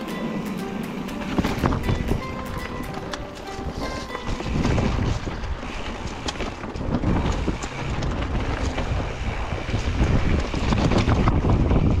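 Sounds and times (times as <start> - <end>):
tyres rolling over leaves and rocks: 0.0 - 11.8
bike clicks and rattles: 0.0 - 12.0
wind buffeting microphone: 0.0 - 12.0.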